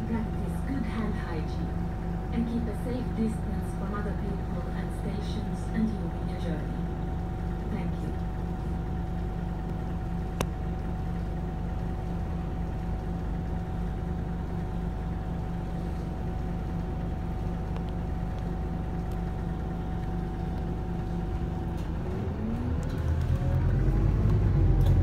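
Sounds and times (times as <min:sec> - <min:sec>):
bus diesel engine idling: 0:00.0 - 0:24.8.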